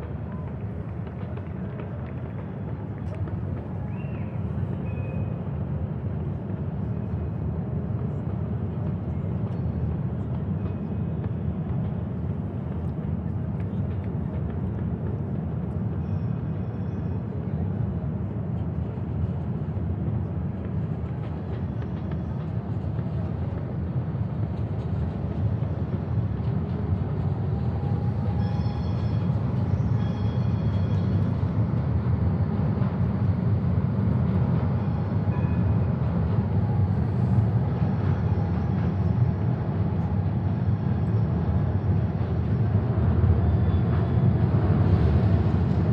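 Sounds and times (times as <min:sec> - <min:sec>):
low city rumble: 0:00.0 - 0:45.9.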